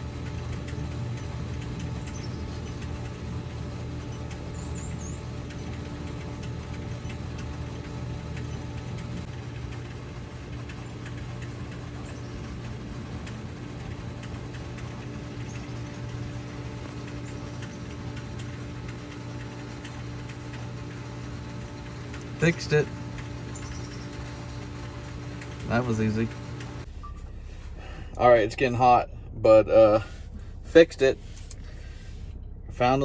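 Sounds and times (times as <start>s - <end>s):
faint ticking: 0.0s - 26.9s
machine hum with low drone: 0.0s - 33.0s.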